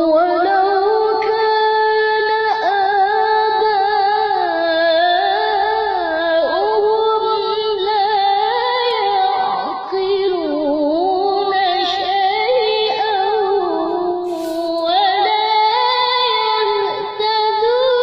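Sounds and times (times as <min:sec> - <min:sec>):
high singing voice: 0:00.0 - 0:18.0.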